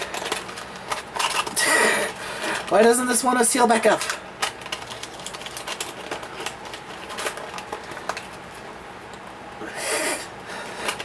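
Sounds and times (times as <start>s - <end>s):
plastic packaging clicking and crinkling: 0.0s - 9.3s, 10.6s - 11.0s.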